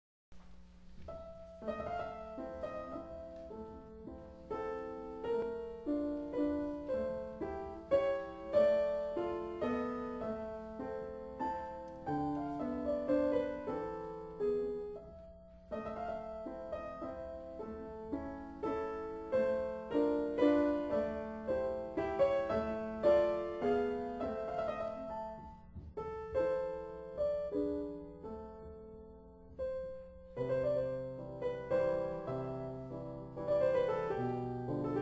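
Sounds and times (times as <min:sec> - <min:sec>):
solo piano melody: 0:00.8 - 0:35.0.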